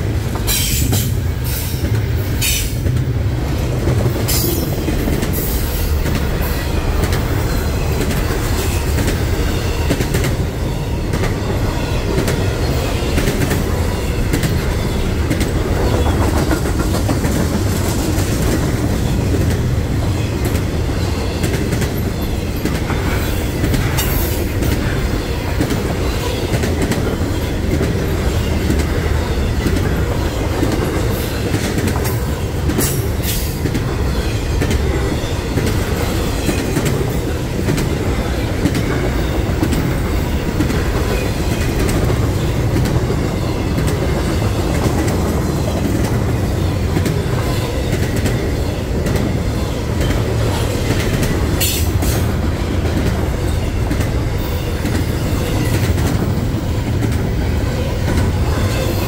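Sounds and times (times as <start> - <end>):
freight train cars rumbling: 0.0 - 59.0.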